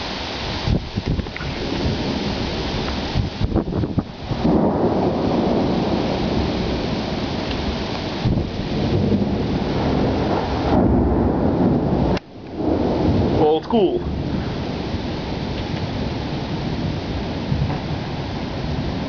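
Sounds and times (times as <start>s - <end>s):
rolling thunder: 0.0s - 19.0s.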